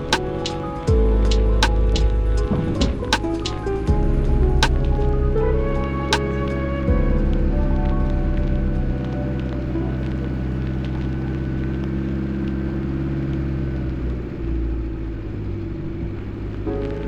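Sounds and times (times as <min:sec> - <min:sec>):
vehicle engine drone: 0:00.0 - 0:16.7.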